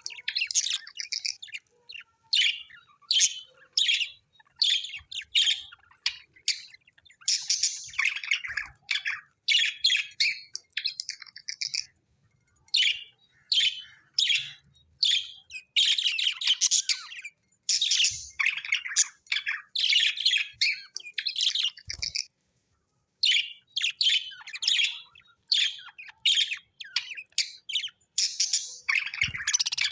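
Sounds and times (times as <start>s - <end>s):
budgerigars chirping: 0.0s - 11.9s, 12.8s - 22.3s, 23.2s - 29.9s.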